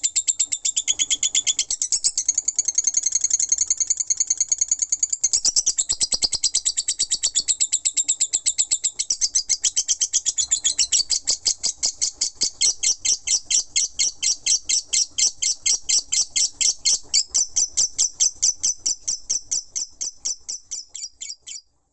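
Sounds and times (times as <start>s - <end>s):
lovebird chattering trill: 0.0s - 21.7s.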